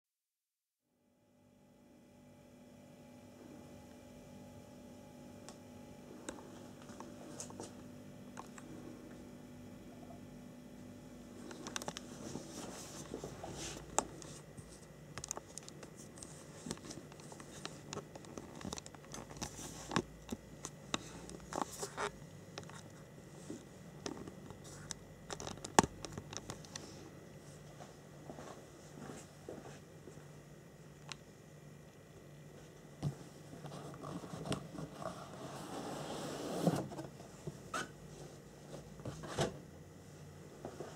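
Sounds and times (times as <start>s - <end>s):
faint steady hum: 0.9s - 40.9s.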